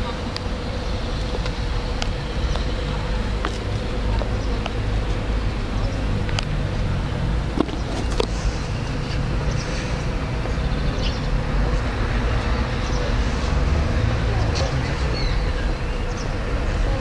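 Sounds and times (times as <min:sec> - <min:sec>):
low rumble of town traffic: 0:00.0 - 0:17.0.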